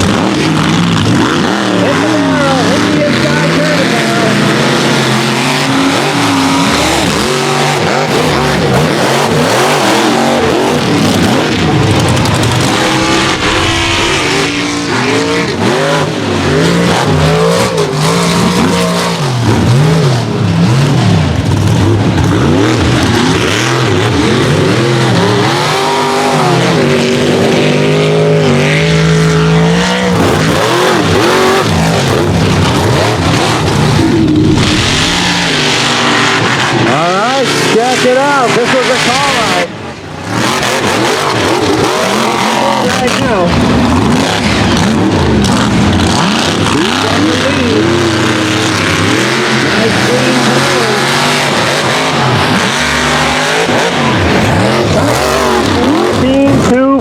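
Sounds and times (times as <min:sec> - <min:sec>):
truck engines revving hard: 0:00.0 - 0:57.0.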